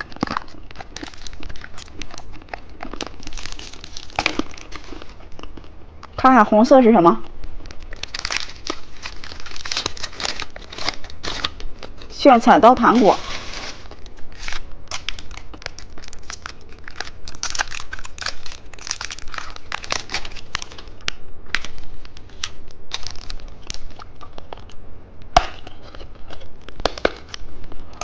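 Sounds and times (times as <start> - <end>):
plastic wrapper crinkling and tearing: 0.0 - 5.8, 6.8 - 24.8, 25.4 - 28.0.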